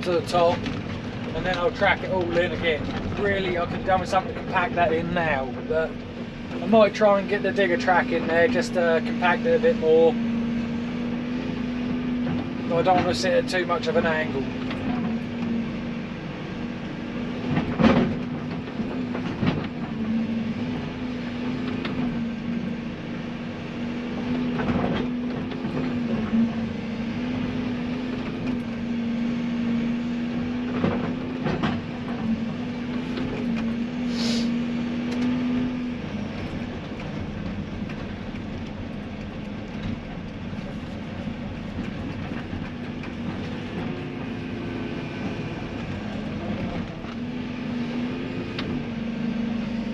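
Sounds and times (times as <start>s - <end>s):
digger engine humming: 0.0s - 49.9s.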